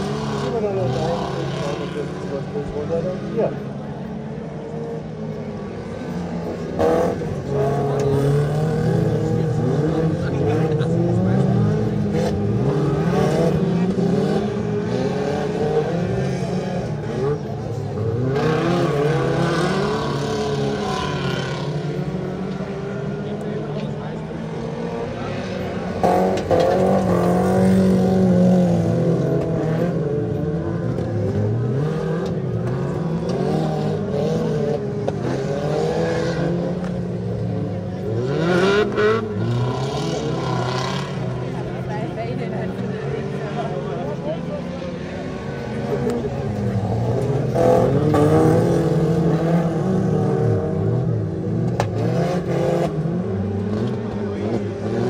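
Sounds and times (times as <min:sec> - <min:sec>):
stock car engines revving: 0:00.0 - 0:55.0.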